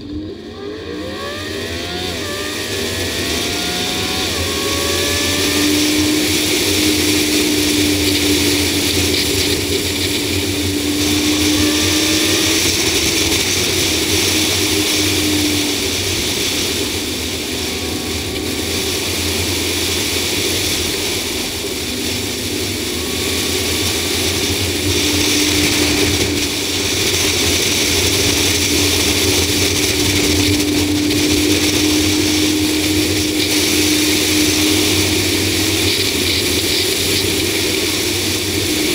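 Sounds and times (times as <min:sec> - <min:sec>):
faint tone drifting in pitch: 0:00.0 - 0:38.9
low engine hum: 0:00.0 - 0:38.9
wind and road noise: 0:00.0 - 0:38.9.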